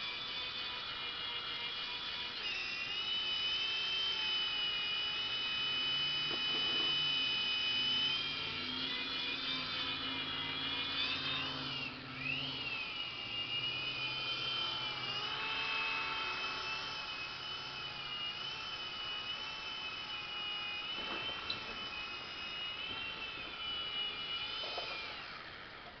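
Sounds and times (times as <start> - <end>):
toy helicopter rotor whine: 0.0 - 26.0.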